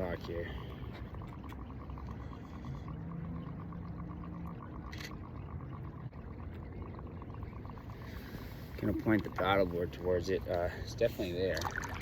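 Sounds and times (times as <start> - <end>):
water lapping and dripping: 0.0 - 12.0.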